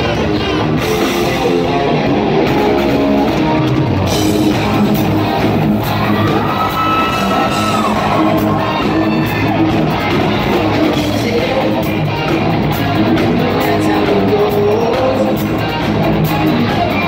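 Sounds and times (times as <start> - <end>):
heavy metal band playing: 0.0 - 17.0.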